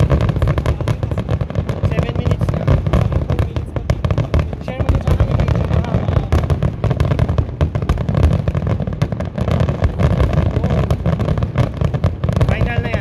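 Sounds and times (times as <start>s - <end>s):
fireworks pops and bangs: 0.0s - 13.0s.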